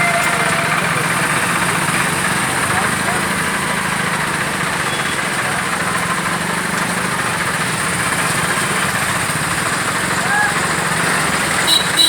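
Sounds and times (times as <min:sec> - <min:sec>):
engine idling hum: 0:00.0 - 0:12.0
road traffic noise: 0:00.0 - 0:12.0.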